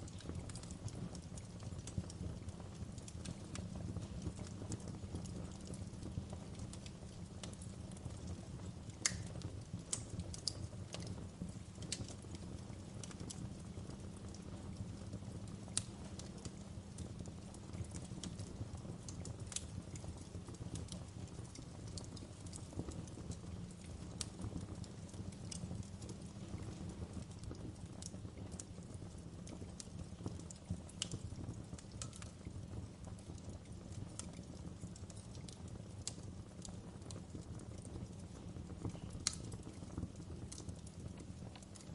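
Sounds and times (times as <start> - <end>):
fire crackling and popping: 0.0 - 41.9
low rumble of flames: 0.0 - 41.9.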